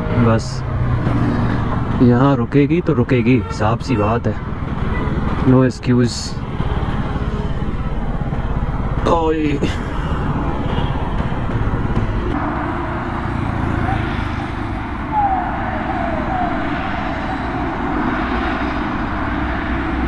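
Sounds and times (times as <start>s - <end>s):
road traffic and engine noise: 0.0s - 20.0s.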